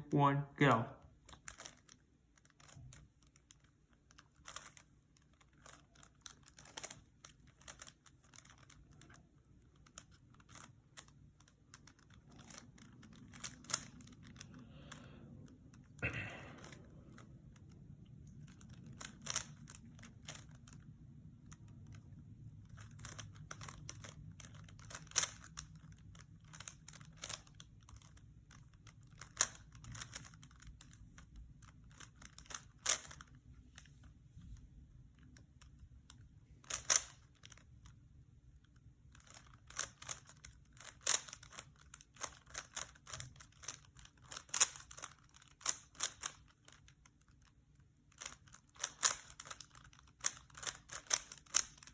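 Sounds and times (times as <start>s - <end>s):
puzzle cube clicking: 1.2s - 33.4s, 35.2s - 38.0s, 38.6s - 51.9s.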